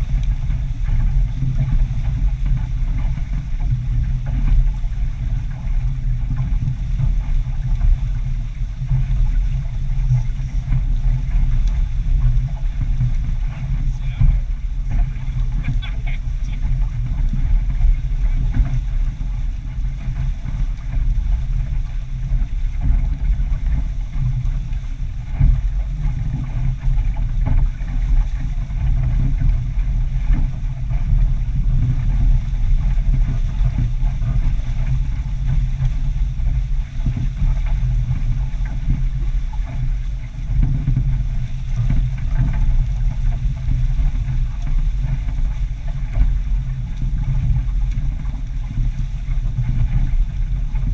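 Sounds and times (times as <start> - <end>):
water noise: 0.0 - 50.9
wind buffeting microphone: 0.0 - 50.9.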